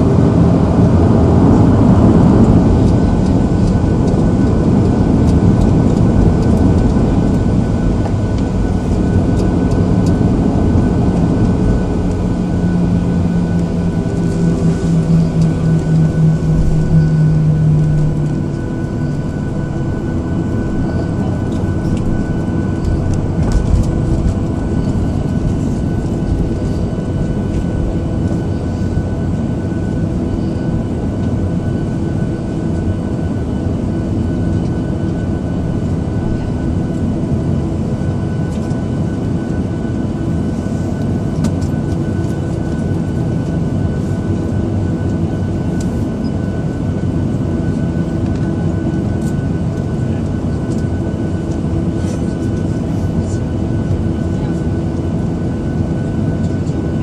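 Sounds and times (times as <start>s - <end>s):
aircraft cabin rumble: 0.0s - 57.0s
jet engine whine: 0.0s - 57.0s.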